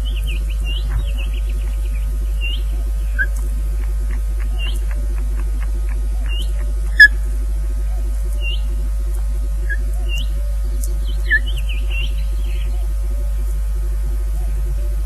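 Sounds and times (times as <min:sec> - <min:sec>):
bird chirping: 0:00.0 - 0:07.2, 0:07.9 - 0:08.8, 0:09.6 - 0:13.6
electrical hum with pulsing buzz: 0:00.0 - 0:15.0.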